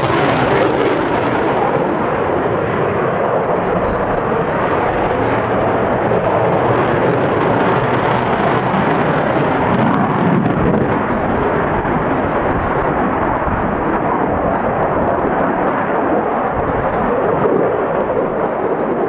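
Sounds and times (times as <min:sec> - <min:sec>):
loud jet engine noise: 0:00.0 - 0:19.0.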